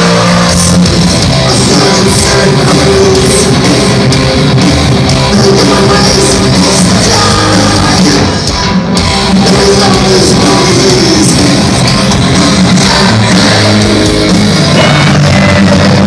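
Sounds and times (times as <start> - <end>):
bass guitar: 0.0 - 16.0
distorted electric guitars: 0.0 - 16.0
drums: 0.0 - 16.0.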